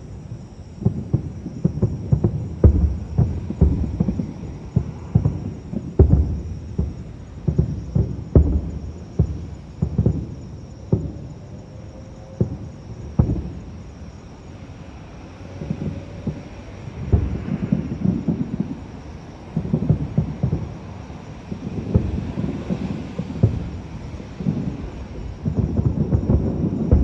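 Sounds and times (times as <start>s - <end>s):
fireworks booming: 0.6s - 11.7s, 12.3s - 27.0s.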